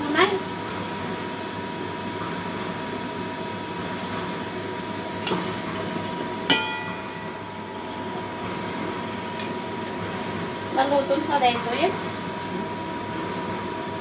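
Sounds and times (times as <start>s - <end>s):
kitchen background rush: 2.2s - 13.8s.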